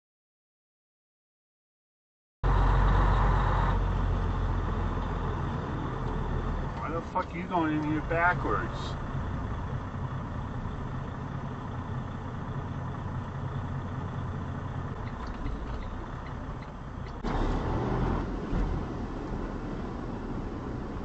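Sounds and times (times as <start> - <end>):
diesel truck engine rumbling: 2.4 - 21.0
road noise from moving truck: 2.4 - 21.0.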